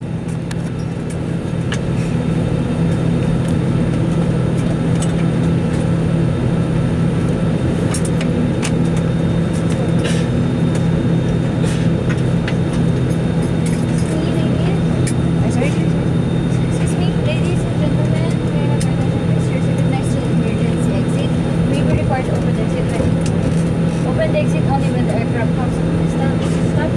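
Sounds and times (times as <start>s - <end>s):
cabin ventilation hum: 0.0s - 26.9s.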